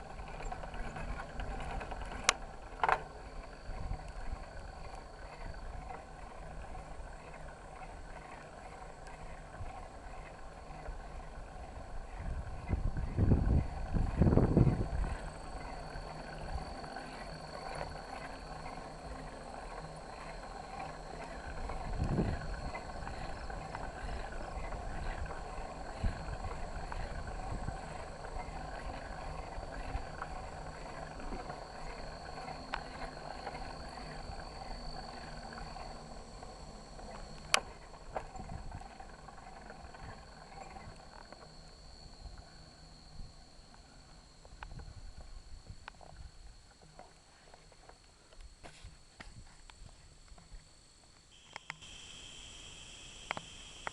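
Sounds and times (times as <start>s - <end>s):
bicycle rolling and rattling: 0.0s - 50.6s
faint high-pitched whine: 0.0s - 53.9s.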